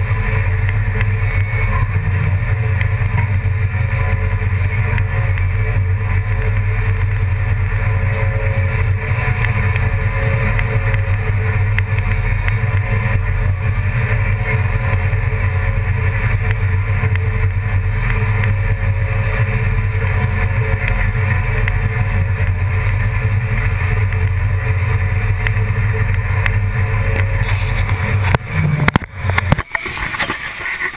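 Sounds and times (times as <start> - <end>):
engine droning: 0.0 - 30.9.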